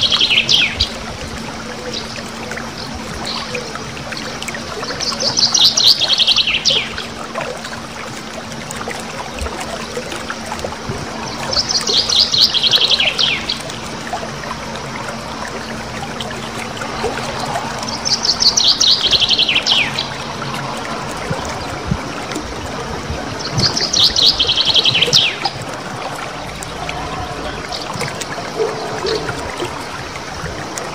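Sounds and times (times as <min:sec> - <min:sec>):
songbird rapid trills: 0:00.0 - 0:30.9.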